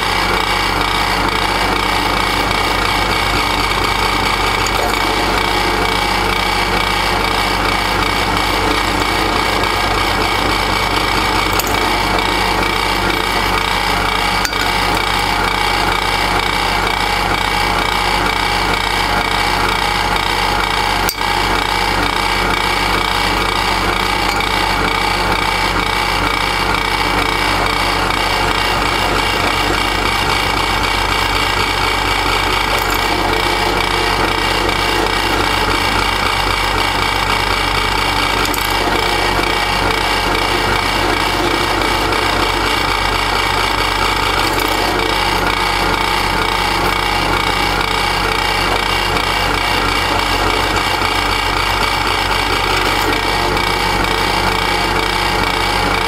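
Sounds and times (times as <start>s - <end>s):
drill press drilling metal: 0.0s - 56.0s.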